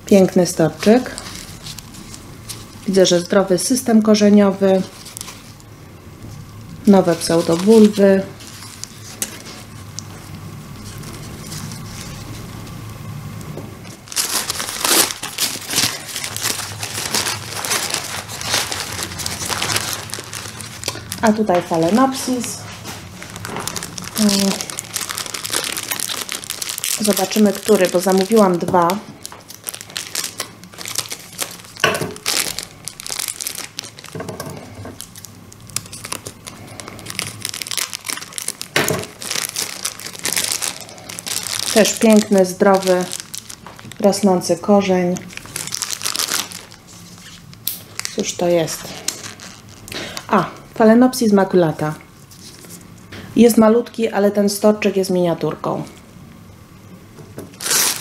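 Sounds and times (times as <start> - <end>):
paper crinkling: 0.7 - 3.3, 4.5 - 5.7, 6.8 - 12.9, 13.8 - 50.2, 52.2 - 53.0, 57.5 - 58.0.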